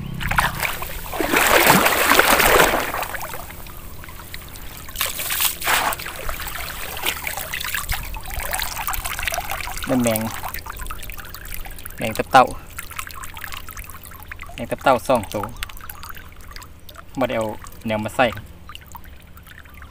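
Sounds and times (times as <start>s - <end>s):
muddy water sloshing and trickling: 0.0s - 19.9s
water splashing: 0.0s - 19.9s.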